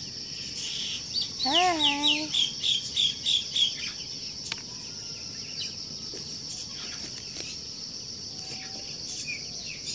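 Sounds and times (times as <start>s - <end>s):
bird chirps: 0.0s - 9.9s
high-pitched insect chorus: 0.0s - 9.9s.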